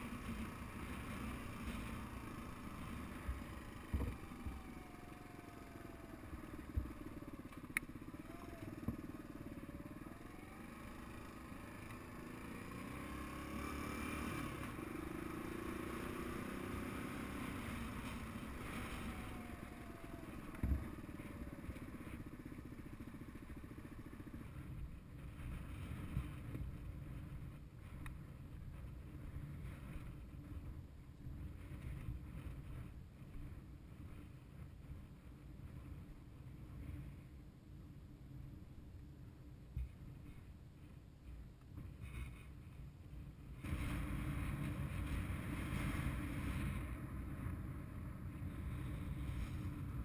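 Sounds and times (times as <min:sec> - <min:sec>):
dirt bike engine running: 0:00.0 - 0:37.3, 0:39.7 - 0:50.0.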